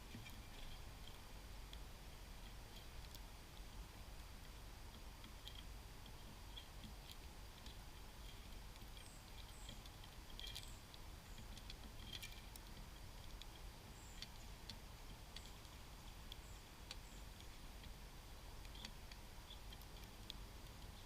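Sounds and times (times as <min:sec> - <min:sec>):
birds pecking at seed: 0:00.0 - 0:21.0.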